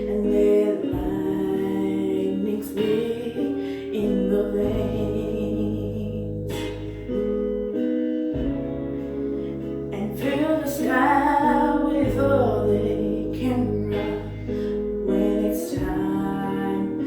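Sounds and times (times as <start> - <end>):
song with guitar and vocals: 0.0 - 17.0.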